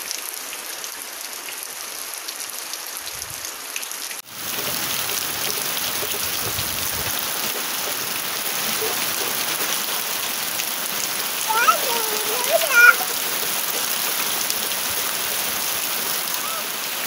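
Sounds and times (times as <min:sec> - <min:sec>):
rain dripping off a roof: 0:00.0 - 0:17.0.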